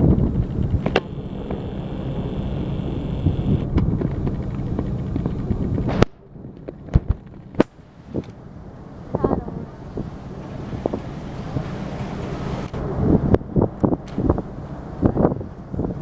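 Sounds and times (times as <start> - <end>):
low rumbling: 0.0 - 16.0
wind on microphone: 0.0 - 16.0.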